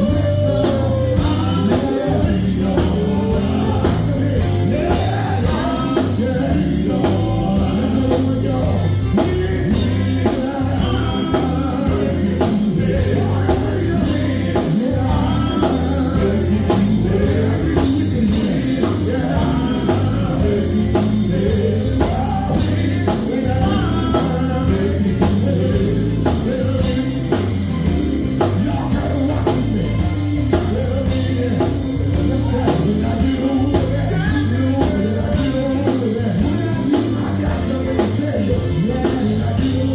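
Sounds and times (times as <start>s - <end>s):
drums: 0.0s - 39.9s
gospel group singing: 0.0s - 39.9s.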